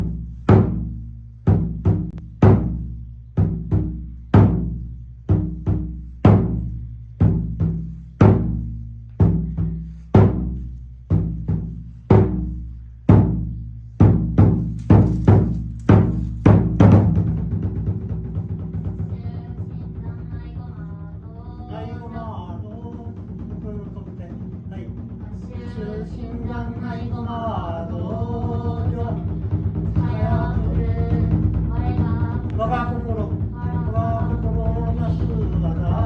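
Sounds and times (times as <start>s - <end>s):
taiko drum strokes: 0.0s - 36.0s.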